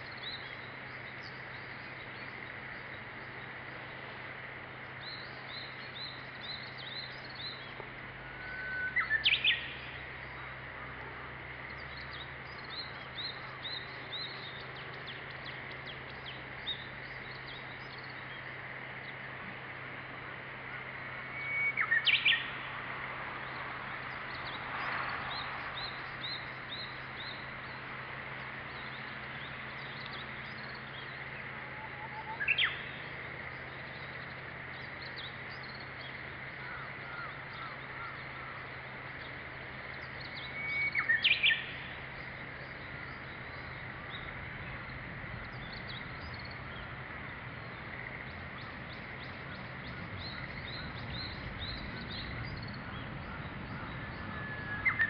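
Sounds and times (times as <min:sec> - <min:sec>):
small birds chirping: 0:00.0 - 0:55.0
warbler singing: 0:00.0 - 0:55.0.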